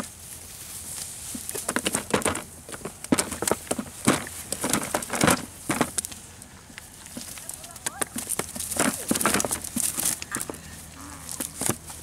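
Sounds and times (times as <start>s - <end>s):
net and grass rustling: 0.0s - 12.0s.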